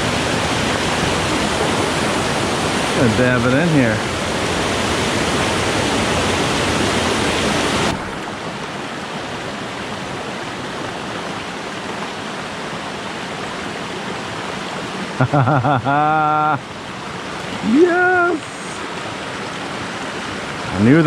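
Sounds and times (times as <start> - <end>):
cascading stream rushing: 0.0 - 21.0.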